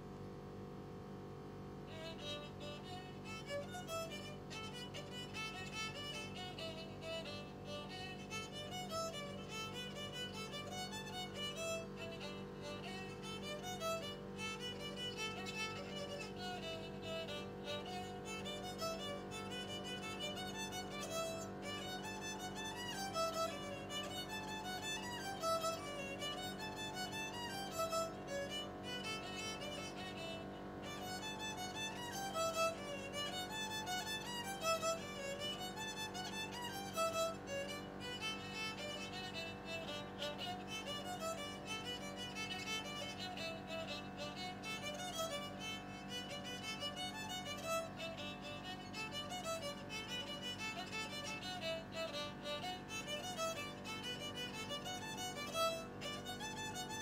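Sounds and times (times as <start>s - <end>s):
low sustained backing: 1.8s - 57.0s
violin playing jig: 1.8s - 57.0s.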